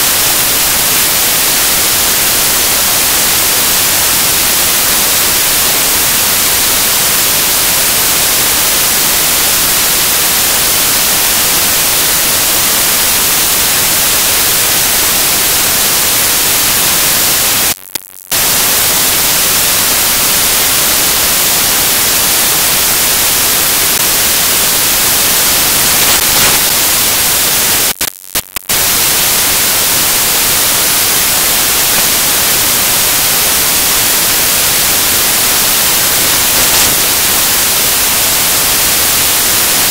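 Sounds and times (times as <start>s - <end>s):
white noise static hiss: 0.0s - 39.9s.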